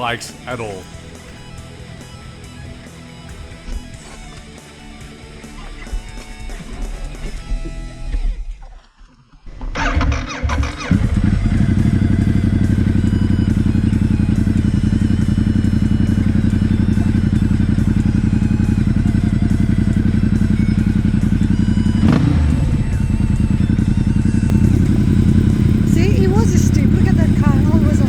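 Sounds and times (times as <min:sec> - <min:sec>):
motorcycle engine running: 0:00.0 - 0:07.9, 0:10.2 - 0:28.0.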